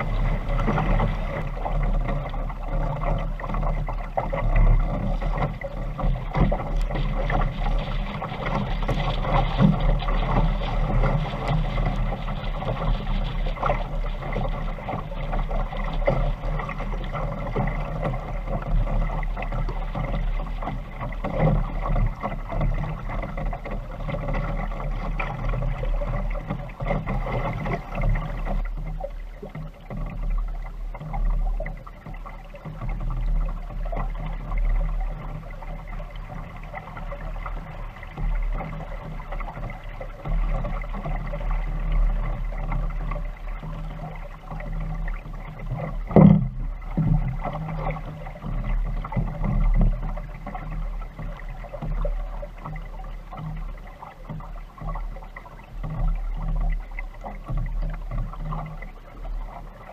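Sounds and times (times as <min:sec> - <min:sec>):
steady low rumble: 0:00.0 - 0:59.9
water slapping against a hull: 0:00.0 - 0:59.9.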